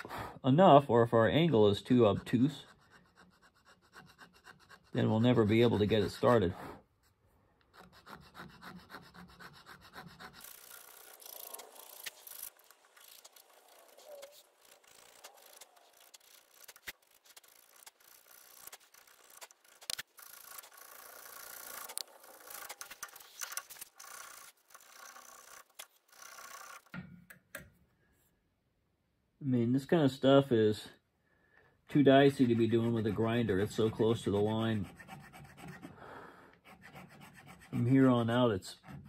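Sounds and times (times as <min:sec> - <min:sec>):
file scraping wood: 0:01.9 - 0:26.8, 0:31.9 - 0:36.0, 0:36.6 - 0:39.0.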